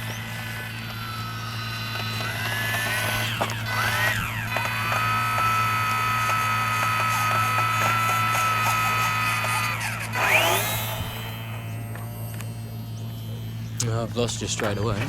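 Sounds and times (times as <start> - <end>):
small electric propeller motor whining: 0.0 - 15.0.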